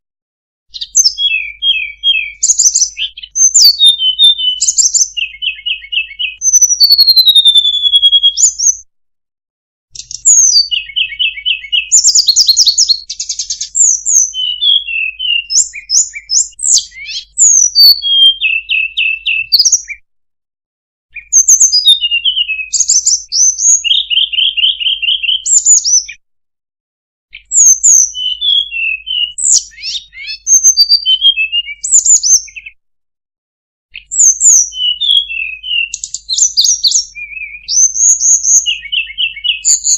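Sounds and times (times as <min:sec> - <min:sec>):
songbird chirps and trills: 0:00.7 - 0:08.8, 0:10.0 - 0:20.0, 0:21.2 - 0:26.2, 0:27.4 - 0:32.8, 0:34.0 - 0:39.9.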